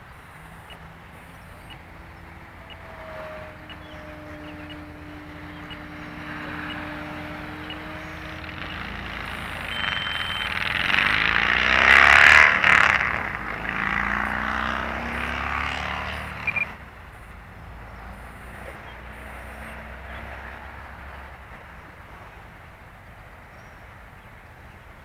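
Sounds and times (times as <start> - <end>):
model airplane flying past: 0.1 - 22.7.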